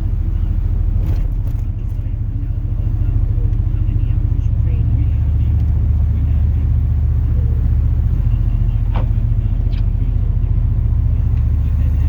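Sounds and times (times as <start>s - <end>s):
engine and road rumble in cab: 0.0s - 12.0s.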